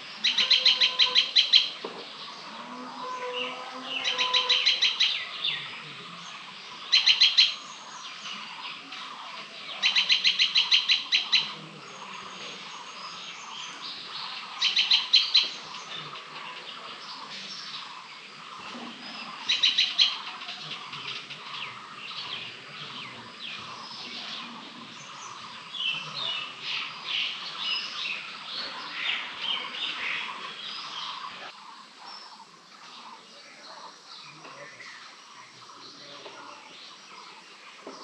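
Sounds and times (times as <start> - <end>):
birds chirping and calling: 0.0 - 38.0.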